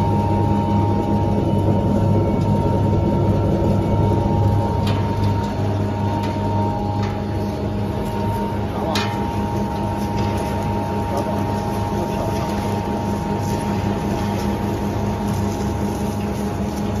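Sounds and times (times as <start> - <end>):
machine mechanical hum: 0.0 - 17.0.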